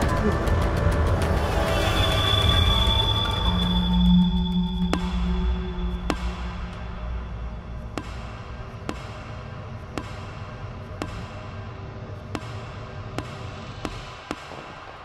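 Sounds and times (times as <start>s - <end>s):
low dark horror drone: 0.0s - 15.0s.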